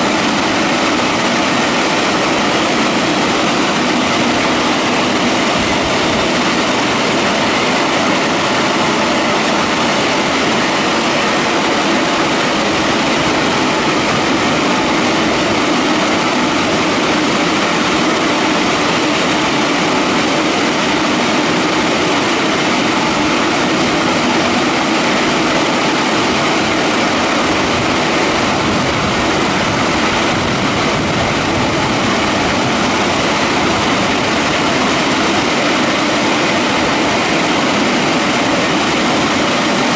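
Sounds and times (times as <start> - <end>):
dryer fans rushing air: 0.0 - 39.9.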